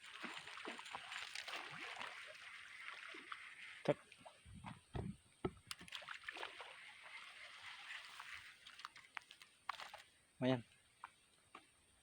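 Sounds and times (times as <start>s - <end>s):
faint water sloshing: 0.0s - 4.9s, 5.5s - 10.3s.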